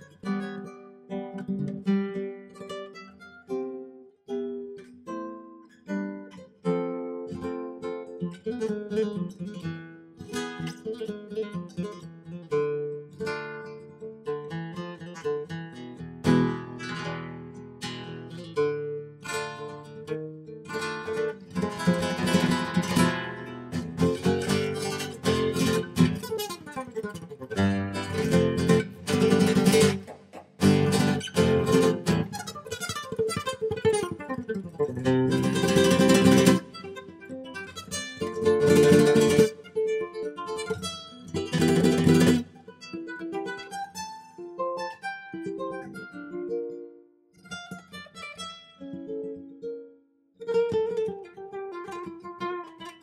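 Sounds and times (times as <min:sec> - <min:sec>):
acoustic guitar: 0:00.0 - 0:53.0.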